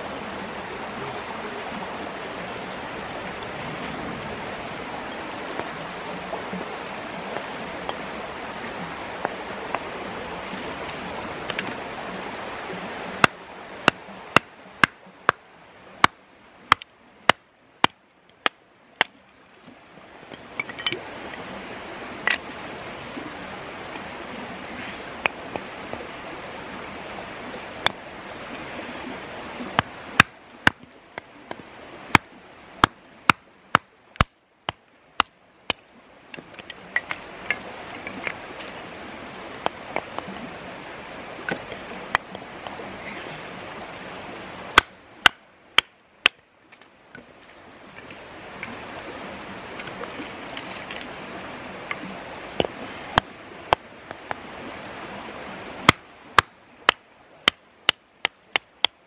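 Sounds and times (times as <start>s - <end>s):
creek flowing: 0.0s - 59.0s.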